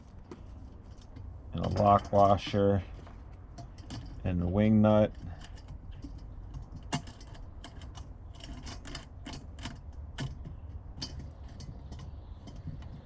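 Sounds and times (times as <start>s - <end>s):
light metallic clicks of hardware: 0.3s - 13.0s.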